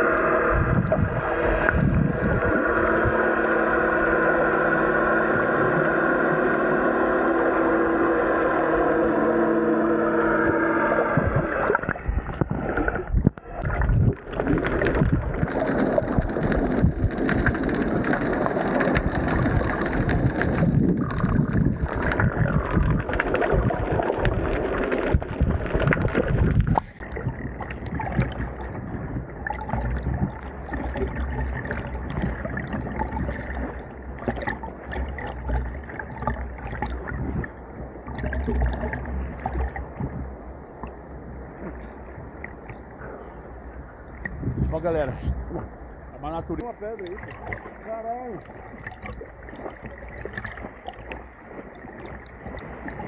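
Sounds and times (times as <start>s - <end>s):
water lapping: 0.0s - 53.0s
water splashing and churning: 0.0s - 53.0s.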